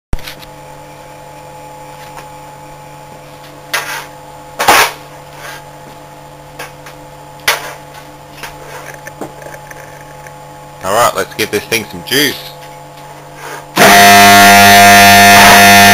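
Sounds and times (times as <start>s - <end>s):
steady hum: 0.2s - 15.9s.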